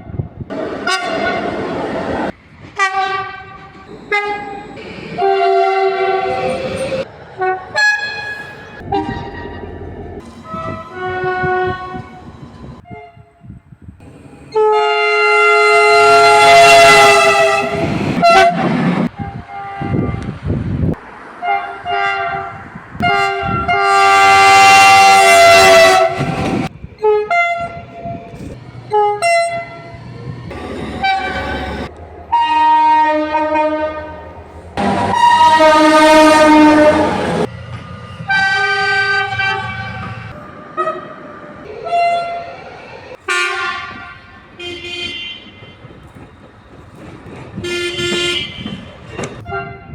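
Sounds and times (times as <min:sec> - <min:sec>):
train horn blasts: 0:00.6 - 0:01.6, 0:02.8 - 0:04.6, 0:05.2 - 0:09.6, 0:10.4 - 0:12.2, 0:12.8 - 0:13.6, 0:14.5 - 0:20.4, 0:21.4 - 0:28.2, 0:28.9 - 0:37.5, 0:38.2 - 0:42.5, 0:43.2 - 0:45.9, 0:47.6 - 0:49.9.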